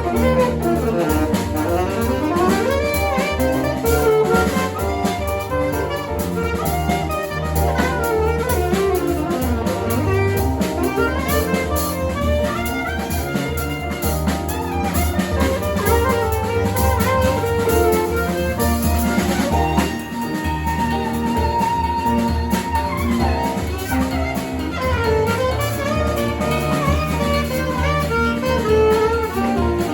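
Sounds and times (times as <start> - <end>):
alto saxophone melody: 0.0 - 29.9
drum kit: 0.0 - 29.9
keyboard: 0.0 - 29.9
piano: 0.0 - 29.9.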